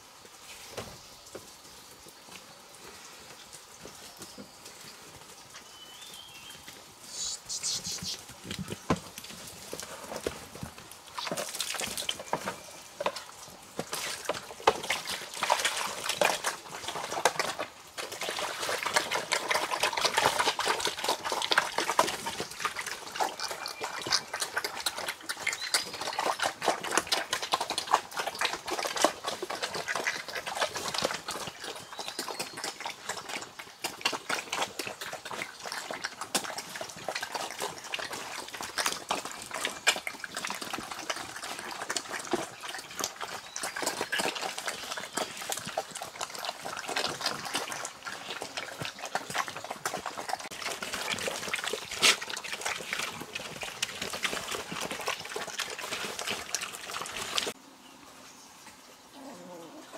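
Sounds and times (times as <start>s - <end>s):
pigs chomping wet feed: 7.9s - 57.6s.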